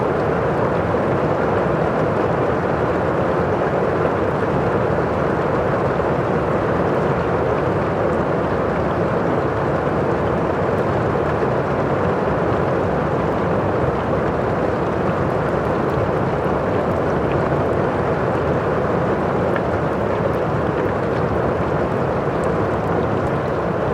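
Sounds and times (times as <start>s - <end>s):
faint fire crackles: 0.1s - 23.9s.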